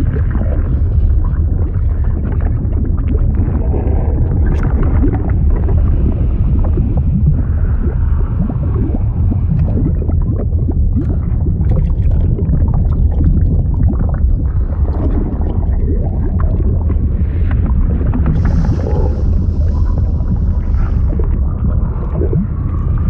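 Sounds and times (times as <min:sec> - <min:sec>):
liquid bubbling gurgling blips: 0:00.0 - 0:23.0
low rumble: 0:00.0 - 0:23.0.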